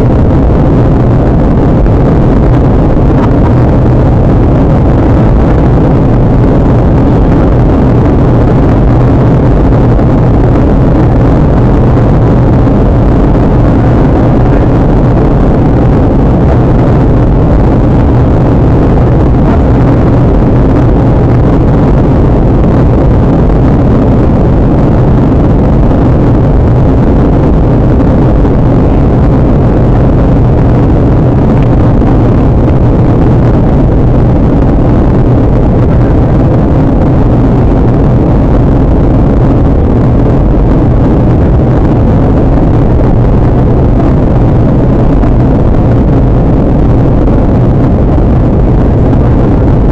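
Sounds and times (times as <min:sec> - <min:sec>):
jet engine drone: 0:00.0 - 0:49.9
rushing air: 0:00.0 - 0:49.9.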